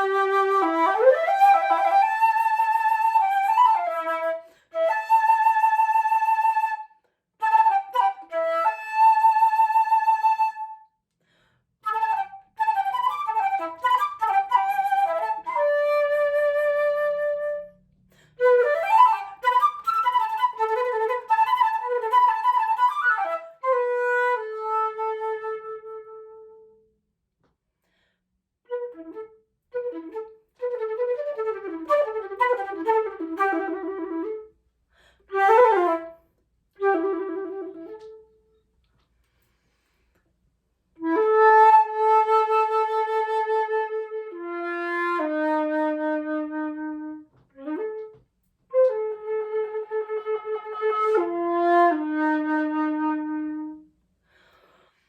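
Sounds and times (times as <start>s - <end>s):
solo flute playing: 0.0s - 10.9s, 11.8s - 26.9s, 28.7s - 34.6s, 35.3s - 38.6s, 41.0s - 53.9s.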